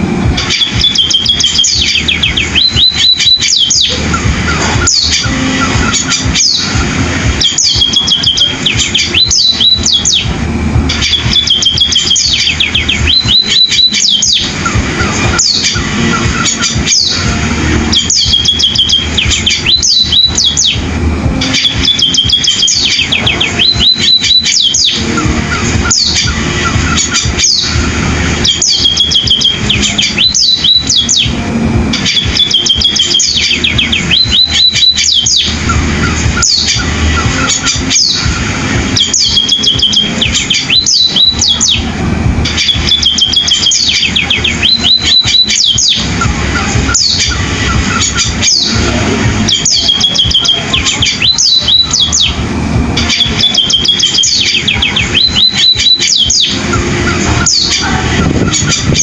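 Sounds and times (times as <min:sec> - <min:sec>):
bird singing chirps and trills: 0:00.0 - 0:59.0.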